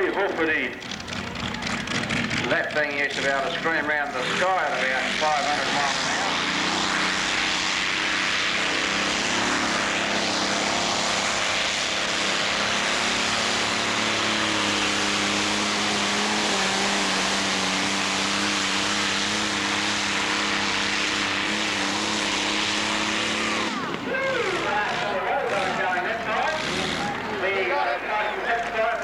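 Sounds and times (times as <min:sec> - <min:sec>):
aircraft engine running under load: 0:00.0 - 0:29.0.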